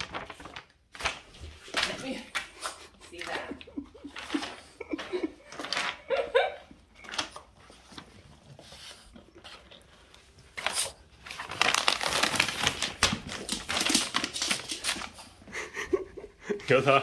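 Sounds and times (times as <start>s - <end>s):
paper bag crinkling and rustling: 0.0s - 2.4s, 4.0s - 15.4s.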